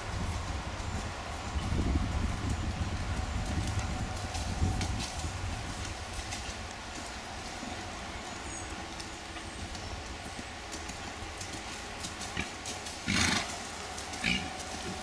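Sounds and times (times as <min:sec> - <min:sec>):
hoofbeats on sand and gravel: 0:00.0 - 0:15.0.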